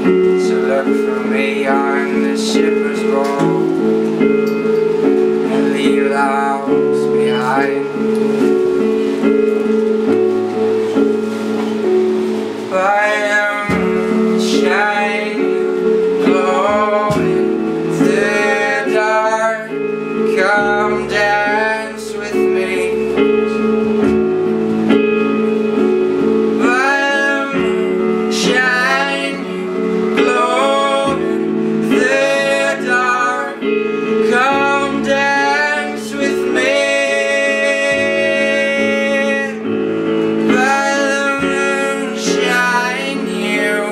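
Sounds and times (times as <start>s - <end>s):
person singing: 0.0s - 10.3s, 12.6s - 43.9s
acoustic guitar chords: 0.0s - 43.9s.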